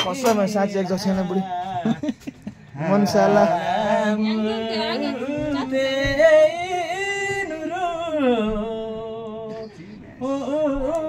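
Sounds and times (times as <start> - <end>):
man singing unaccompanied: 0.0 - 2.1, 2.8 - 11.0.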